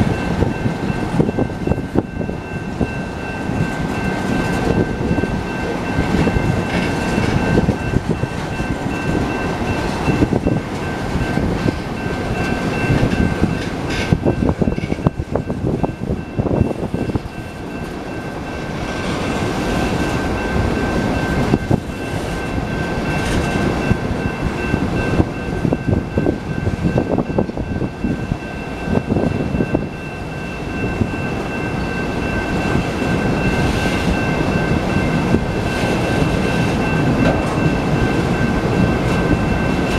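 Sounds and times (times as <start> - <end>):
steady high-pitched tone: 0.0 - 39.9
train wheels rumbling on rails: 0.0 - 39.9.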